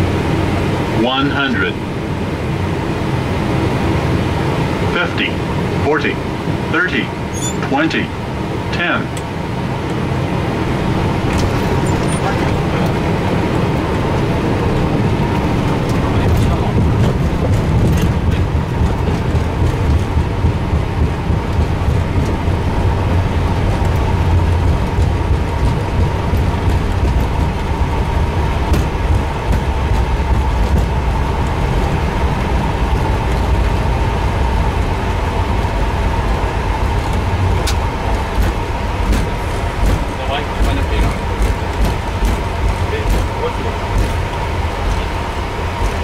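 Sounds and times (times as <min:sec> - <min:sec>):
airplane rolling on runway rumble: 0:00.0 - 0:46.0.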